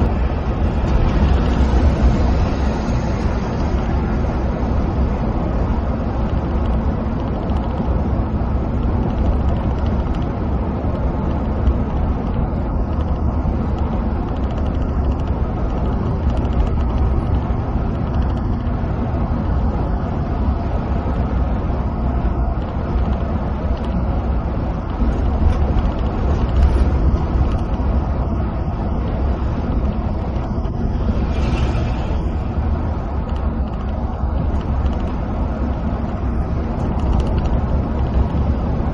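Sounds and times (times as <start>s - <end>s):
engine drone: 0.0s - 38.9s
tyre and road rumble: 0.0s - 38.9s.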